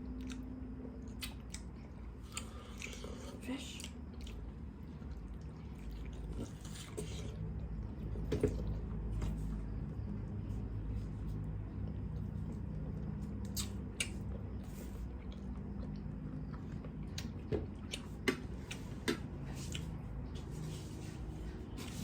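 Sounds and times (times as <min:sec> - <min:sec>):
person chewing food: 0:00.0 - 0:09.0, 0:10.0 - 0:20.4
low hum: 0:00.0 - 0:22.0.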